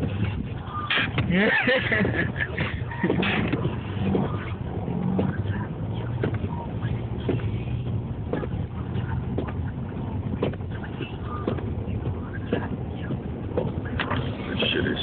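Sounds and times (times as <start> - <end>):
engine and tyres droning: 0.0 - 15.0.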